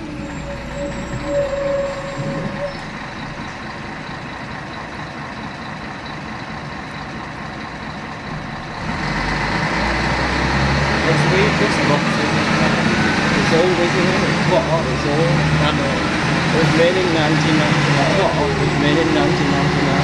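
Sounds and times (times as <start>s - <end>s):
coach diesel engine: 0.0s - 20.0s.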